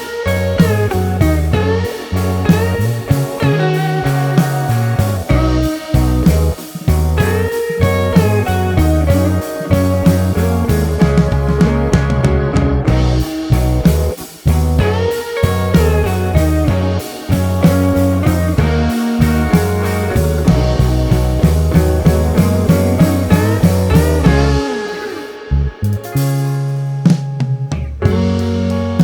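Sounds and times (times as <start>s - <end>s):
guitar-led rock music: 0.0s - 29.0s.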